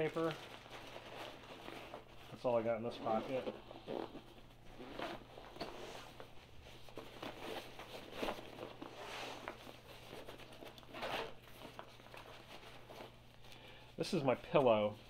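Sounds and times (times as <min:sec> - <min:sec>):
backpack fabric rustling: 0:00.1 - 0:13.4.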